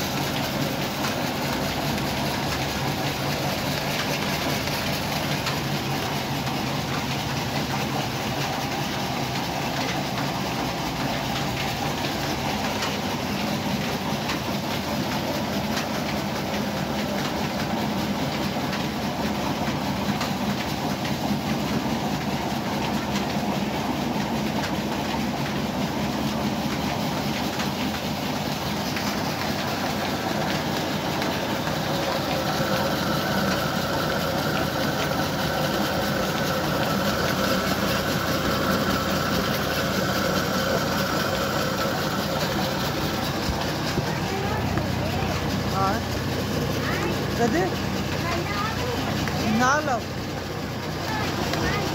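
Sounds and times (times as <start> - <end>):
flour mill grinding grain: 0.0 - 51.9.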